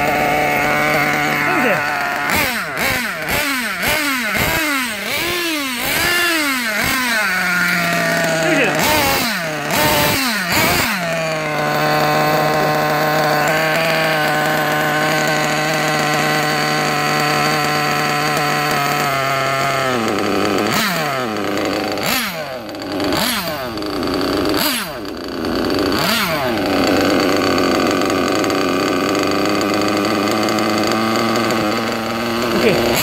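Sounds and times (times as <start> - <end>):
rc car engine revving: 0.0 - 33.0.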